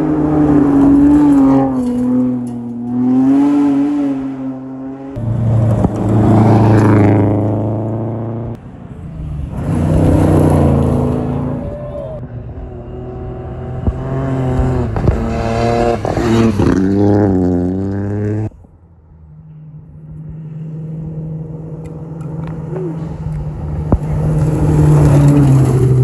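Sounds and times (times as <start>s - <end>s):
rally car engines at full throttle: 0.0s - 26.0s.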